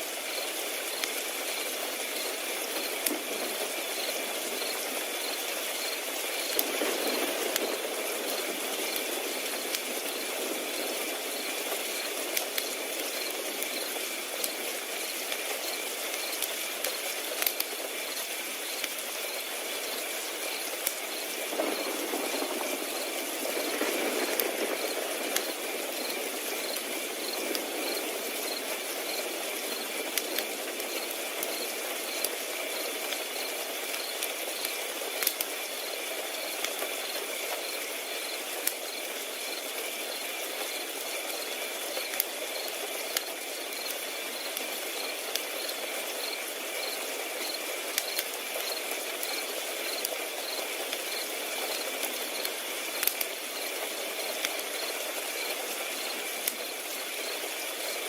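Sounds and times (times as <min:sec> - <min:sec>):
crickets chirping: 0:00.0 - 0:58.0
wood fire crackling and popping: 0:00.0 - 0:58.0.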